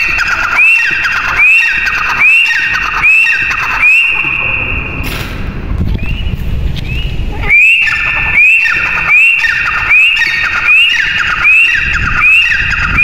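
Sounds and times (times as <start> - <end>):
bird shrill rising calls: 0.0 - 5.0, 6.0 - 13.0.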